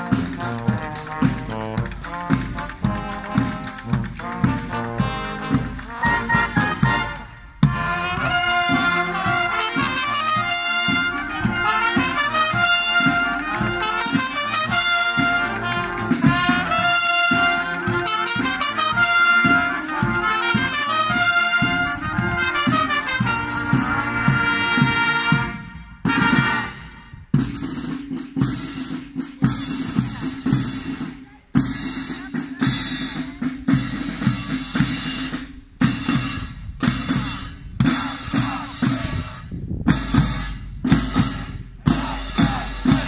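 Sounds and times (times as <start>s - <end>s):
brass band playing in unison: 0.0s - 43.0s
low drum beat: 0.0s - 43.0s.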